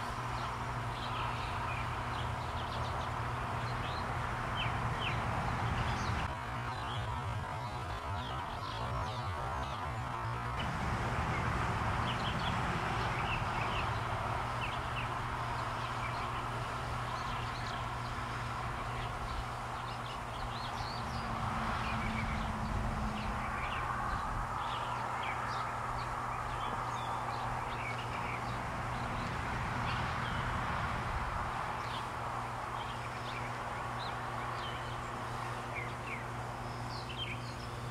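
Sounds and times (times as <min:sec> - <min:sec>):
small birds chirping: 0:00.0 - 0:37.9
steady low hum: 0:00.0 - 0:37.9.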